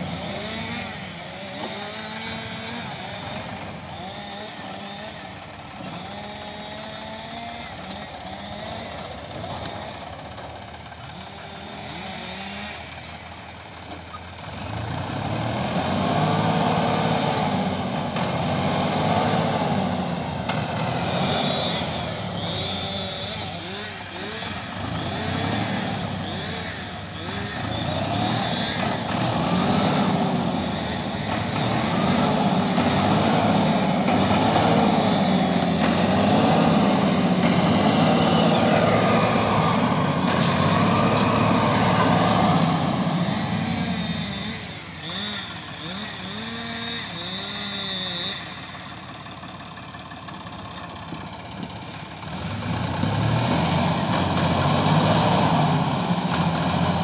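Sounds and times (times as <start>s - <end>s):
diesel tractor engine revving: 0.0s - 57.0s.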